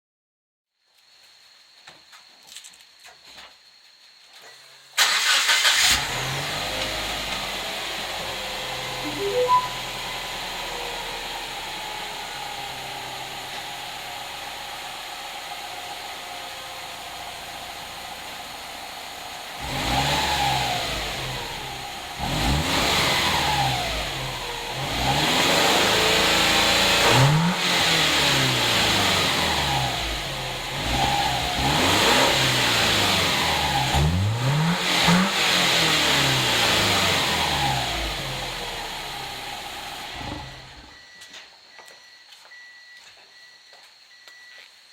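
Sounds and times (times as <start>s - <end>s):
car engine idling and revving: 5.0s - 41.2s.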